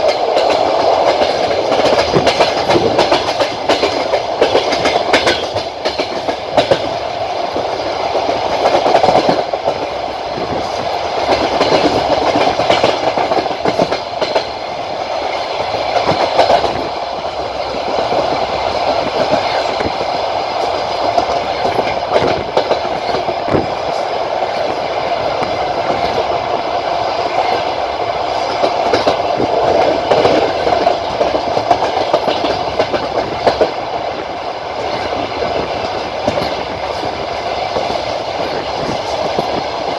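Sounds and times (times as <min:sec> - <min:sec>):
train wheels rumbling on rails: 0:00.0 - 0:39.9
wheels clicking over rail joints: 0:00.0 - 0:39.9.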